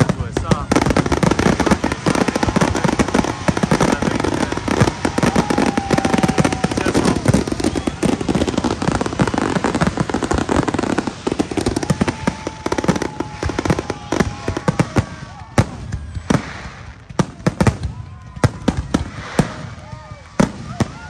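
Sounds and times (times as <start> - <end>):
fireworks bangs and crackles: 0.0 - 21.0
firework whistle: 0.9 - 21.0.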